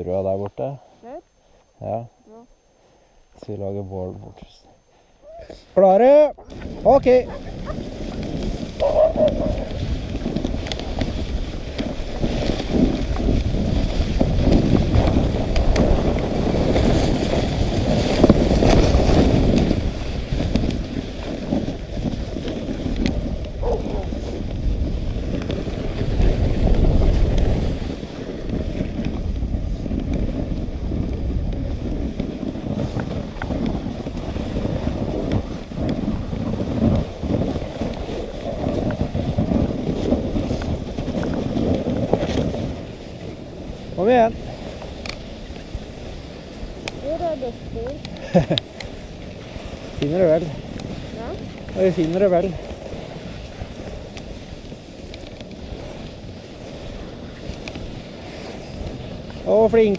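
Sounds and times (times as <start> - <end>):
sled runners rushing over snow: 5.2 - 59.9
wind buffeting microphone: 6.0 - 59.9.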